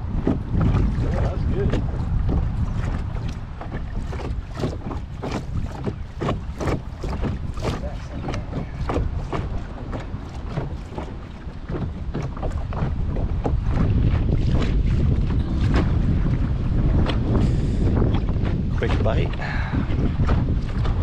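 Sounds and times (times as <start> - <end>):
waves slapping boat hull: 0.0 - 21.0
wind rumbling on microphone: 0.0 - 21.0.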